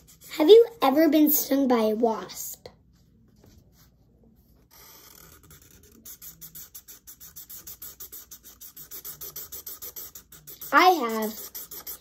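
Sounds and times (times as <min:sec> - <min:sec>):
marker scratching on paper: 0:00.0 - 0:01.2, 0:03.0 - 0:12.0.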